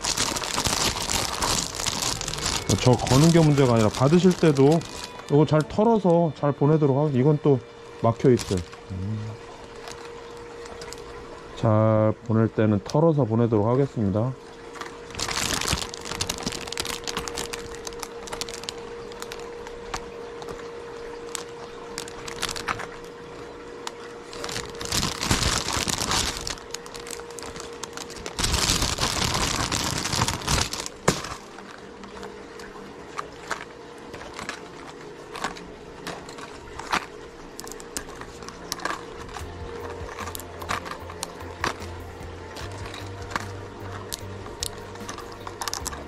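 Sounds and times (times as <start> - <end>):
plastic packs crinkling and clicking: 0.0 - 11.6, 14.6 - 46.0
plastic rustling: 0.0 - 11.6, 14.5 - 46.0.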